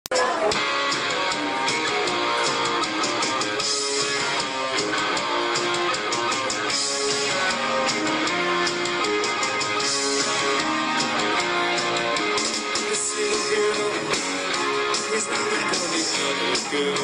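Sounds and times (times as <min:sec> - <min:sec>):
bass guitar: 0:00.1 - 0:17.0
drums and cymbals: 0:00.1 - 0:17.0
electric guitars strumming: 0:00.1 - 0:17.0.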